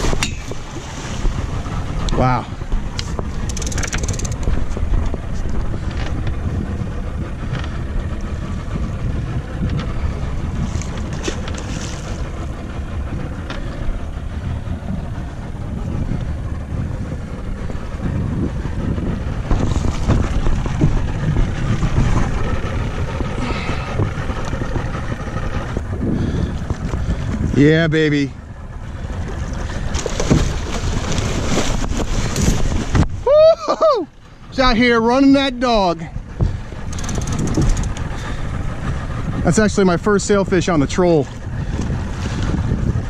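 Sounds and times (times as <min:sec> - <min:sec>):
water noise: 0:00.0 - 0:43.0
wind buffeting microphone: 0:00.0 - 0:43.0.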